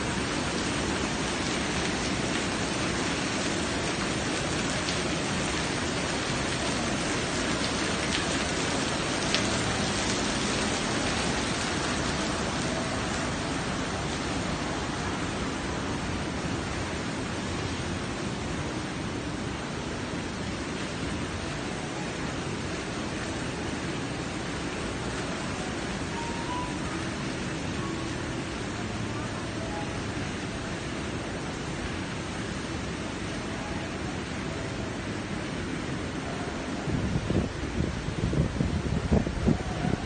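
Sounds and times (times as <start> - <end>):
fountain water splashing: 0.0 - 40.0.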